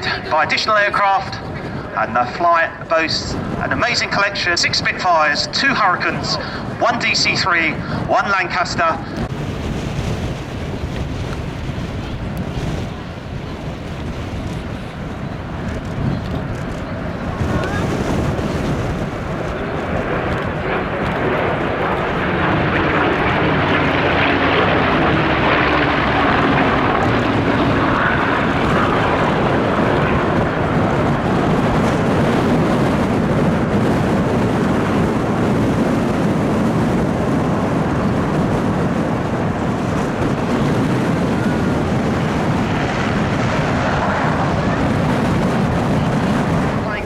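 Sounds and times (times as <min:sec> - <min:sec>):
propeller fighter planes flying past: 0:00.0 - 0:47.0.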